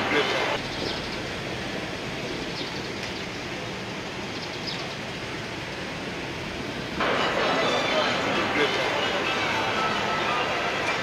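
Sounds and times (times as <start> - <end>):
cars rolling slowly past: 0.0 - 11.0.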